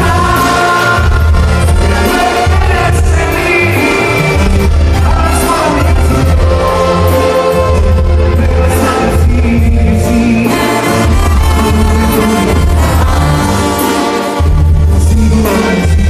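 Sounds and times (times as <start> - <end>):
banda music with tuba and brass: 0.0 - 16.0
person singing: 0.0 - 16.0.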